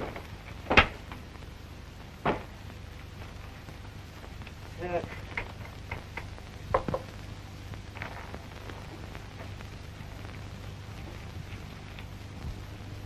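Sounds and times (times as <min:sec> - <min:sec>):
film soundtrack hum and hiss: 0:00.0 - 0:13.0.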